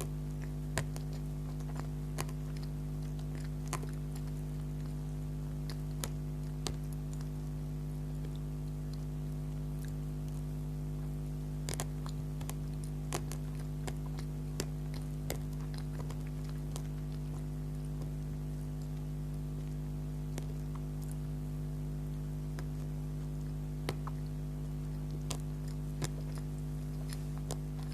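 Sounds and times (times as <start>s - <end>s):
person chewing: 0.0s - 21.5s, 22.2s - 27.9s
low electrical hum: 0.0s - 27.9s.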